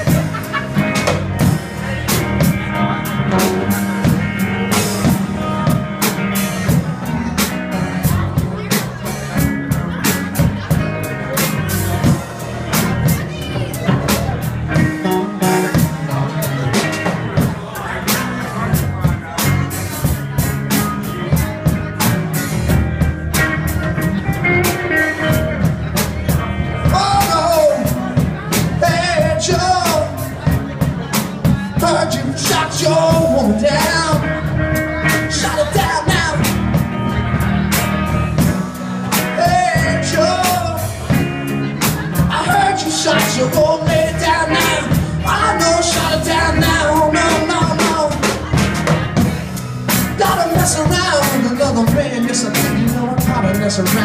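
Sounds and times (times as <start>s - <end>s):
man singing: 0.0s - 54.0s
rock band playing: 0.0s - 54.0s.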